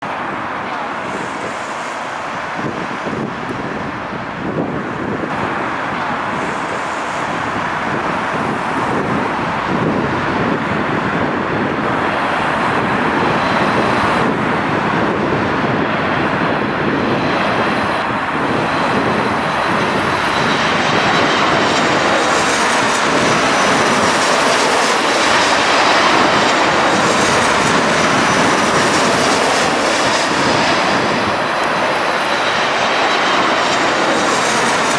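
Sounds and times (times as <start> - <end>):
jet airliner engine rushing: 0.0 - 34.9
high engine whine: 0.1 - 34.9.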